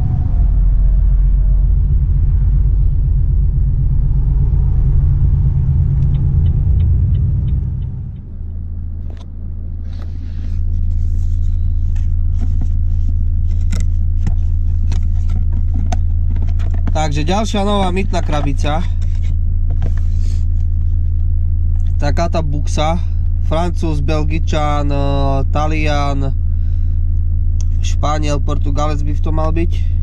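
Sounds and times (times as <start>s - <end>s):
truck diesel engine rumble: 0.0s - 30.0s.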